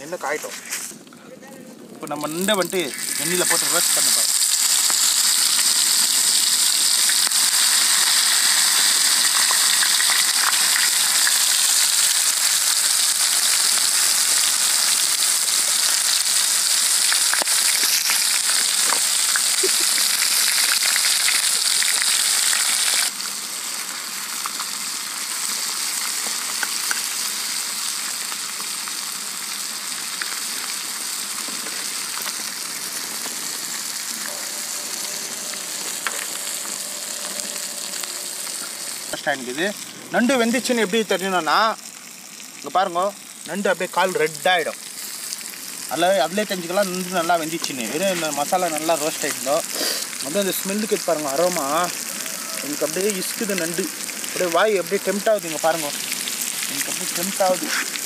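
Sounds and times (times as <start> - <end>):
crabs sizzling in hot oil: 2.0 - 58.0.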